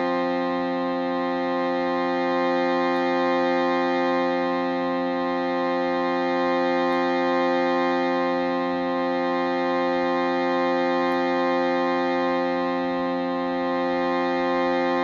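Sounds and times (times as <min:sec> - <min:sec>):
shruti box drone: 0:00.0 - 0:15.0.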